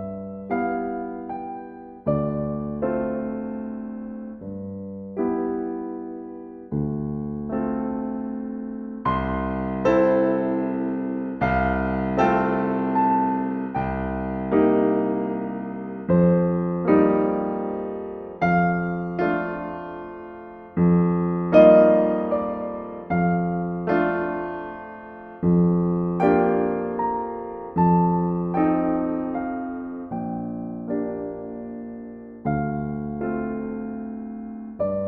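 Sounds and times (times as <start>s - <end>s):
slow calm solo piano: 0.0s - 35.0s.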